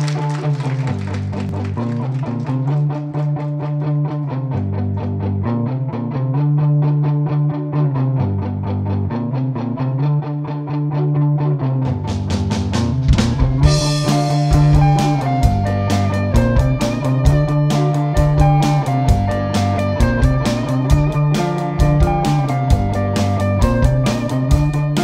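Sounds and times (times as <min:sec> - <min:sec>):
live rock band playing: 0:00.0 - 0:09.3, 0:10.0 - 0:25.0
electric guitar riff: 0:00.0 - 0:25.0.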